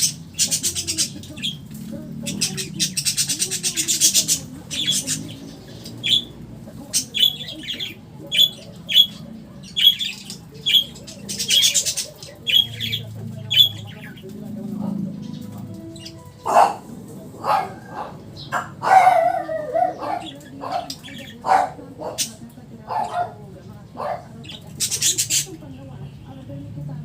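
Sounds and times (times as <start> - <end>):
parrots squawking: 0.0 - 25.6.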